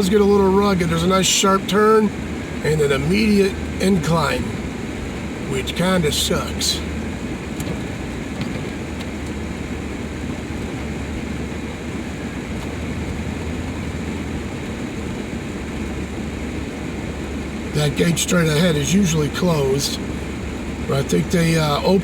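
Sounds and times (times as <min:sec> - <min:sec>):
van engine and tyre rumble: 0:00.0 - 0:22.0.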